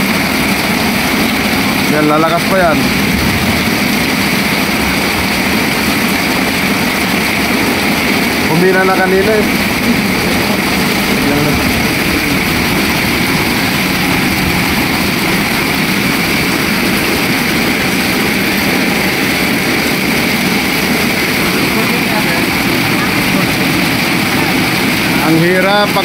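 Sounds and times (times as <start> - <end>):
heavy rain on floodwater: 0.0 - 26.0.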